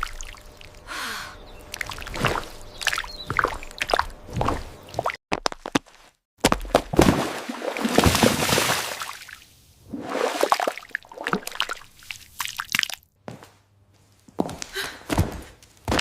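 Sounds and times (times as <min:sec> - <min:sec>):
wet sloshing liquid: 0:00.0 - 0:13.0.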